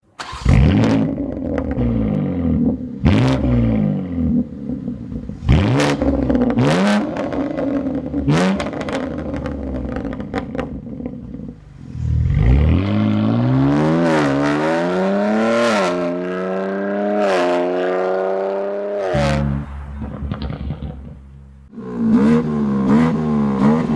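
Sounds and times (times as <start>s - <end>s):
car engine revving: 0.2s - 23.9s.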